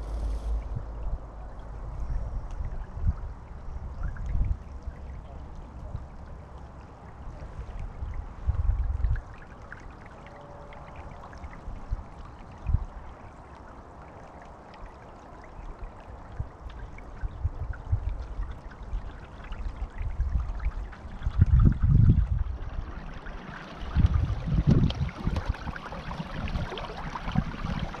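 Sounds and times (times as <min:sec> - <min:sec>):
wind rumble on microphone: 0:00.0 - 0:14.6, 0:15.2 - 0:28.0
water lapping against hull: 0:00.0 - 0:28.0.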